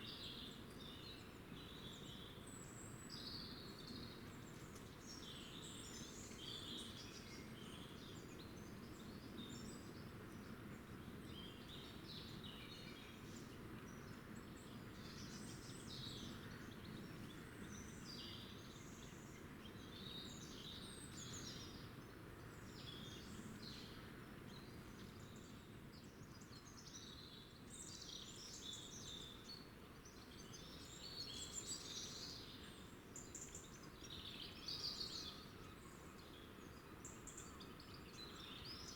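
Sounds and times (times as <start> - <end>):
low background hiss: 0.0 - 38.9.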